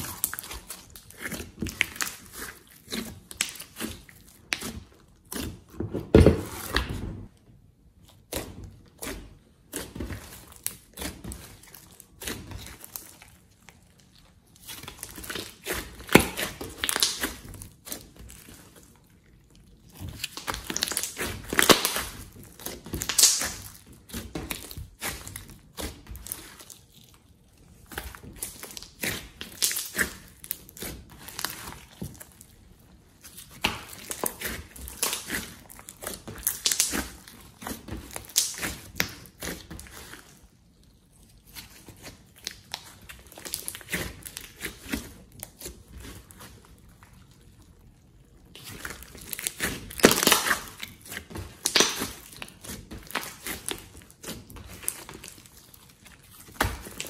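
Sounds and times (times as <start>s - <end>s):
sticky slime crackling and clicking: 0.0s - 5.8s, 8.0s - 32.6s, 33.2s - 40.4s, 41.0s - 47.3s, 48.4s - 57.0s.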